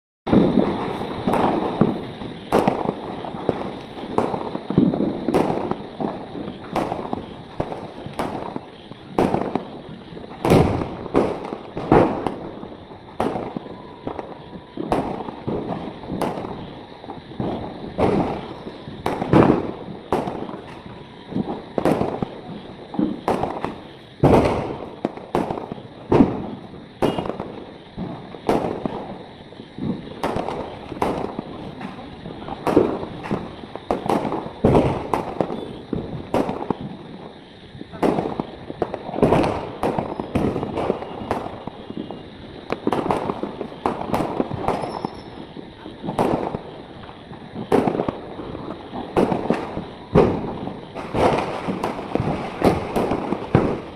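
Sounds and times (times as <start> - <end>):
fireworks bangs and cracks: 0.3 - 53.9.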